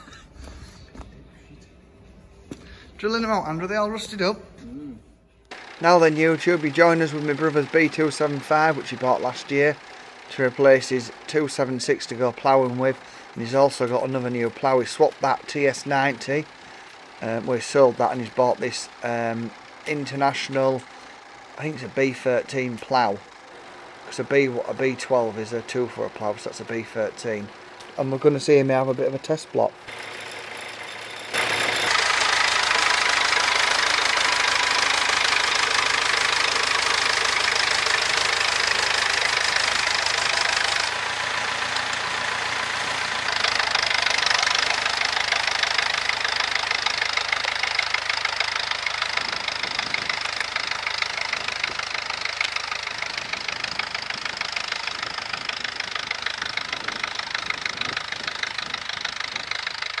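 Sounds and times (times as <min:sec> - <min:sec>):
tractor diesel engine clattering: 0:05.5 - 1:00.0.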